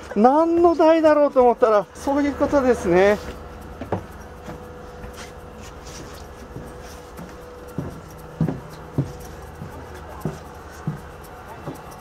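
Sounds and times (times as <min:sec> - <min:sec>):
footsteps on boat deck: 0:00.0 - 0:12.0.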